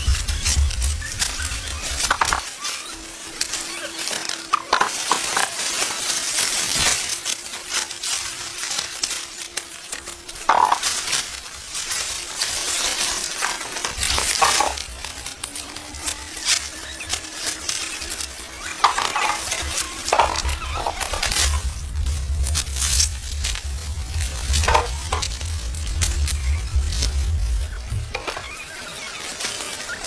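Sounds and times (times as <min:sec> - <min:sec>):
dry corn leaves rustling: 0:00.0 - 0:30.0.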